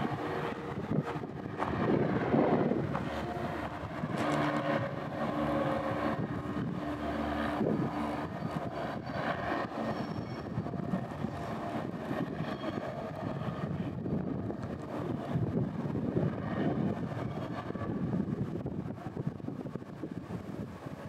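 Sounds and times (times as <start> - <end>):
distant train rumbling past: 0.0 - 21.0
droning engine: 0.0 - 21.0.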